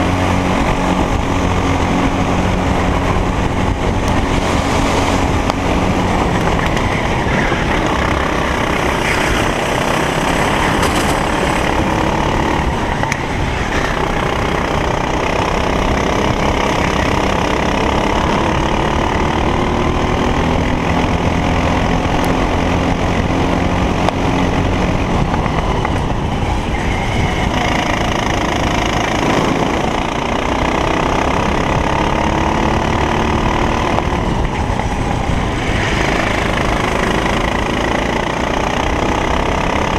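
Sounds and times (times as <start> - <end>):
kart engine at full throttle: 0.0 - 39.9.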